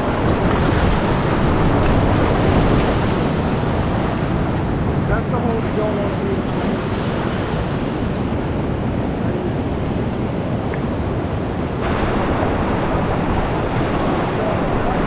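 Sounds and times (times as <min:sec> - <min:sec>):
whitewater rushing: 0:00.0 - 0:15.0.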